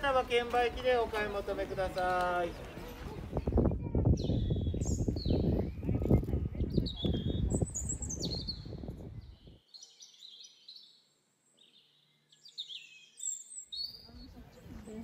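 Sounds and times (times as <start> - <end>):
small birds chirping: 0.6 - 15.0.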